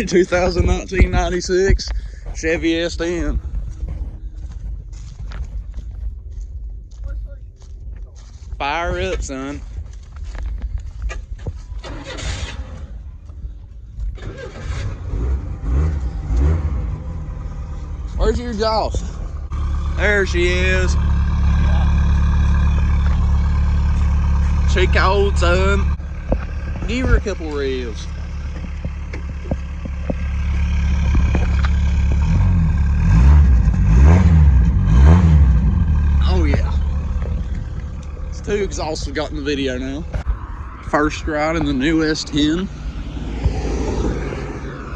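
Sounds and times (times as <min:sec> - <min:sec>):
pickup engine starting and running: 0:00.0 - 0:44.9.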